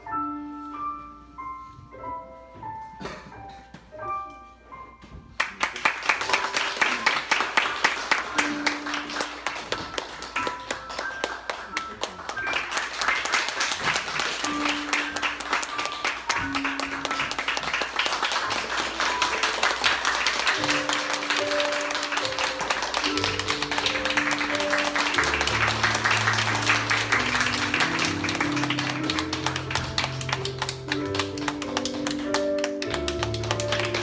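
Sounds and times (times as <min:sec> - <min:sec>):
music: 0:00.0 - 0:34.0
audience applause: 0:05.4 - 0:34.0.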